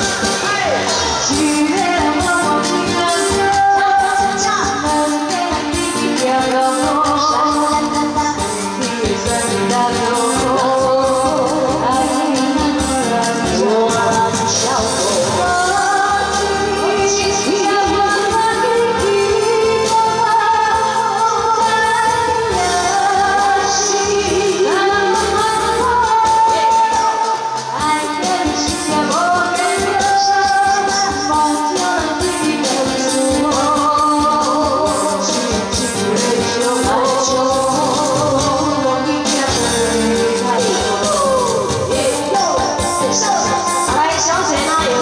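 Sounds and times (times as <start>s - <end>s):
loud backing track: 0.0s - 45.0s
women singing with vibrato: 0.0s - 45.0s.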